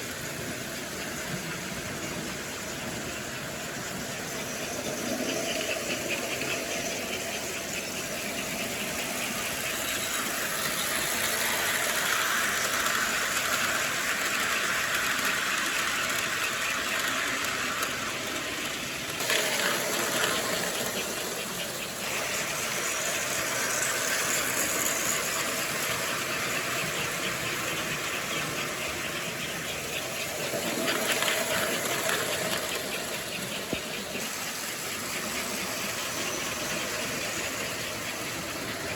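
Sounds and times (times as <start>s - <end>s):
model train motor whirring: 0.0s - 38.9s
wheels rattling over rails: 0.0s - 38.9s.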